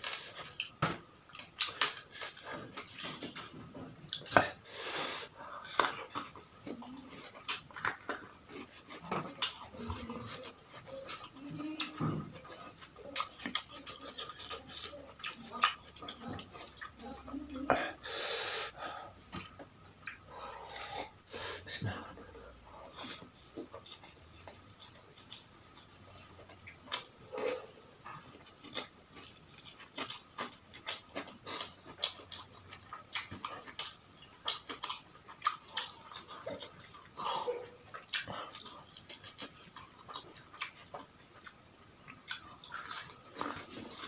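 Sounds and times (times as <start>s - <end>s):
person chewing food: 0.0s - 44.0s.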